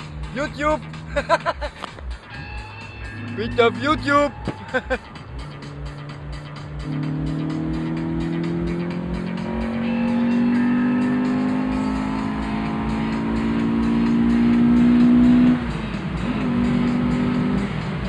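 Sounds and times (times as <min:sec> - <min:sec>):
car engine revving under acceleration: 0:00.0 - 0:18.0.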